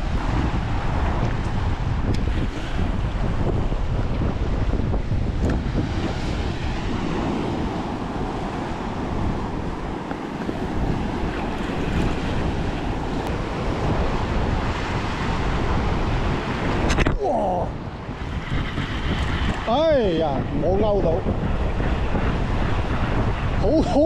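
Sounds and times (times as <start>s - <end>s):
ocean surf over rocks: 0.0s - 24.0s
wind buffeting microphone: 0.0s - 24.0s.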